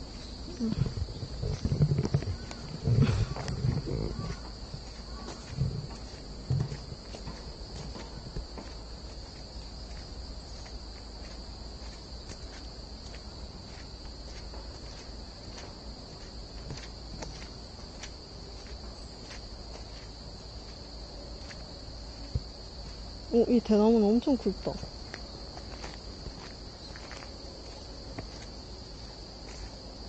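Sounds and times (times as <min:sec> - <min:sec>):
footsteps on soft forest path: 0:00.0 - 0:30.0
insect chorus: 0:00.0 - 0:30.0.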